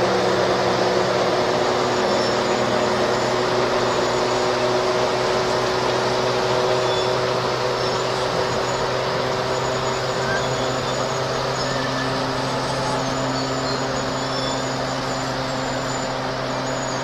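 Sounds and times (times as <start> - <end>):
truck engine running: 0.0 - 17.0
faint high squeals: 0.1 - 17.0.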